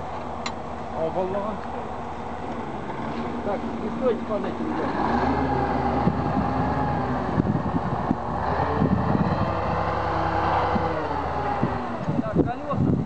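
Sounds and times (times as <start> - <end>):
crane engine running: 0.0 - 12.3.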